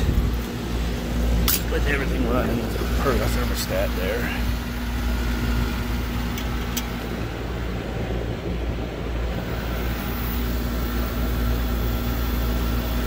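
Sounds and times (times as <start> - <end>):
heat pump compressor and fan hum: 0.0 - 13.0.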